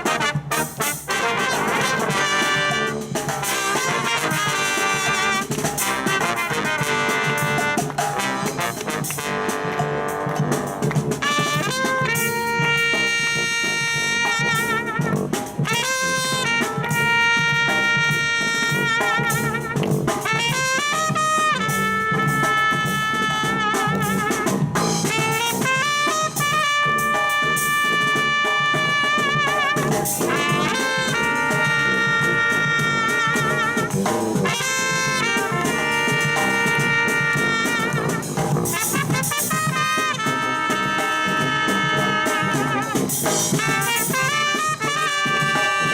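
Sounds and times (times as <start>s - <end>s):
brass band playing: 0.0s - 45.9s
drum beat: 0.0s - 45.9s.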